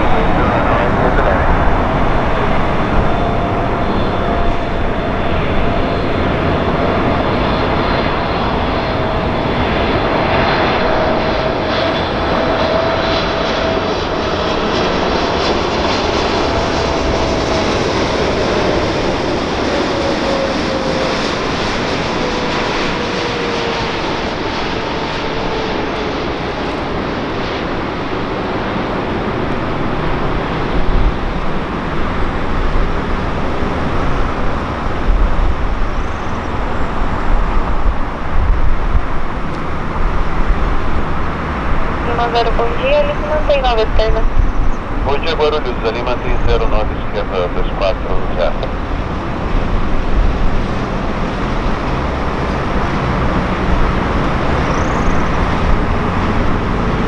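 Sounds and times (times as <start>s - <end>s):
jet airliner rumble: 0.0s - 57.0s
jet engine whine: 0.0s - 57.0s.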